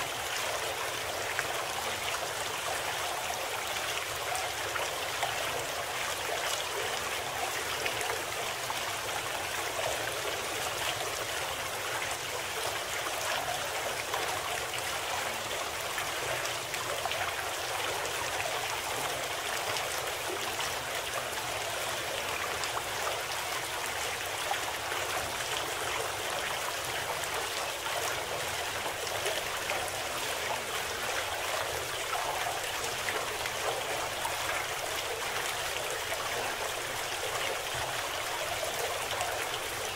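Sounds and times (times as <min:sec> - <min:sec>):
steady flowing water: 0:00.0 - 0:39.9.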